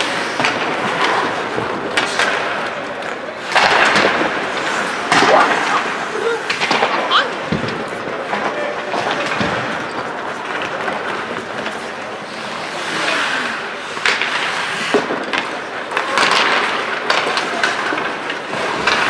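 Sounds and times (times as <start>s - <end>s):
hockey sticks and puck clacking: 0.0s - 19.0s
skates scraping on ice: 0.0s - 19.0s.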